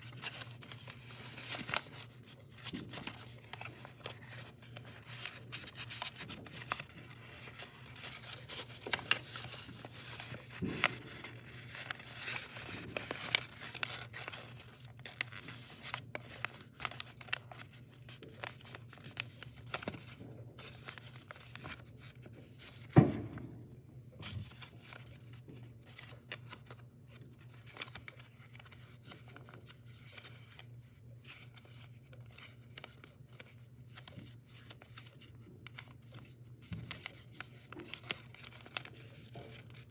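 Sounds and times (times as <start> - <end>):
paper rustling and crinkling: 0.0 - 23.2, 24.2 - 39.9.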